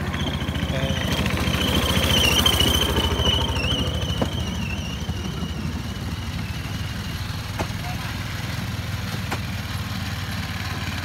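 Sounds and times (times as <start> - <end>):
small engine pulsing: 0.0 - 11.0.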